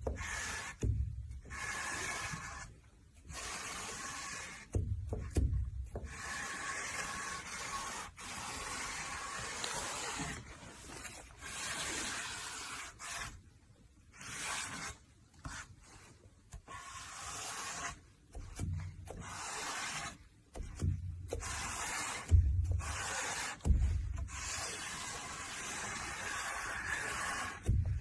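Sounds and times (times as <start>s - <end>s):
marker scratching on canvas: 0.0s - 13.5s, 14.1s - 28.0s.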